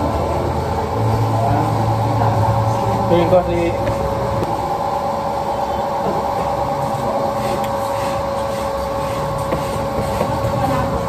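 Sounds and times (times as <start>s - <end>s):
machine hum with whining tone: 0.0s - 11.0s.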